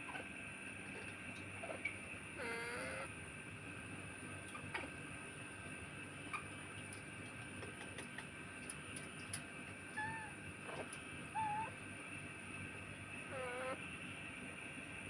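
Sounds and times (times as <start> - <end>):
high background hum: 0.0 - 15.0.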